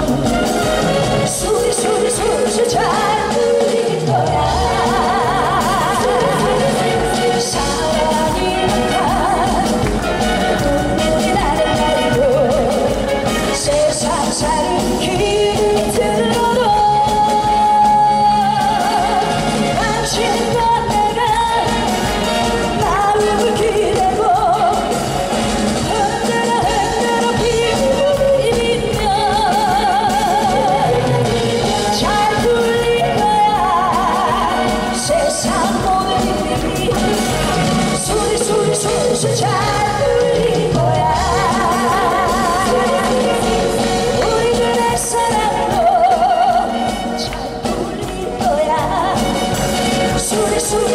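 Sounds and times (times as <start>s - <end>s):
band accompaniment: 0.0s - 50.9s
woman singing into microphone: 0.0s - 50.9s.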